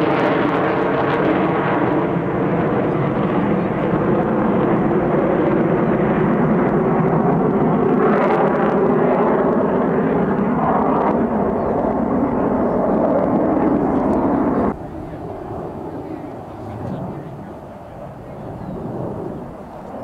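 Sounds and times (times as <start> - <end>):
jets flying over: 0.0 - 20.0.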